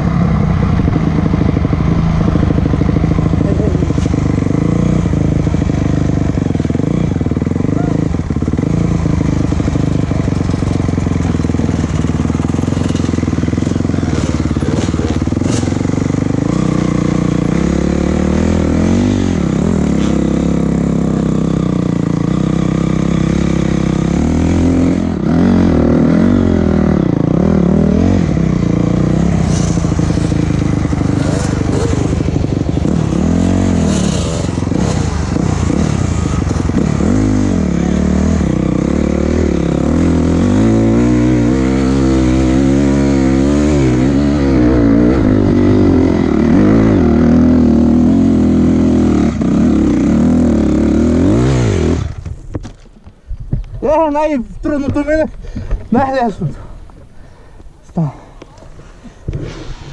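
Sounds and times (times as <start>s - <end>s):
vehicle engine revving: 0.0s - 52.3s.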